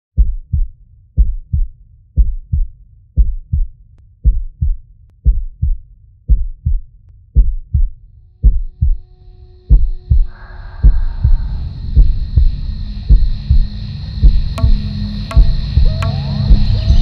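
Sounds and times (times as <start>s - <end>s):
heartbeat thumps: 0.2s - 9.0s, 9.7s - 17.0s.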